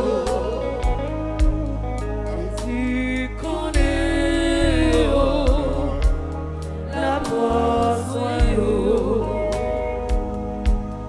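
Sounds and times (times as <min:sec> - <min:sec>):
gospel hymn music: 0:00.0 - 0:11.0.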